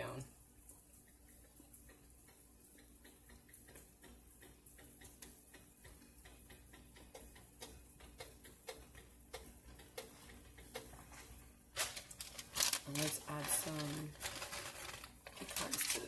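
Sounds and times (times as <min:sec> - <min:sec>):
oil crackling in frying pan: 0:01.1 - 0:16.0.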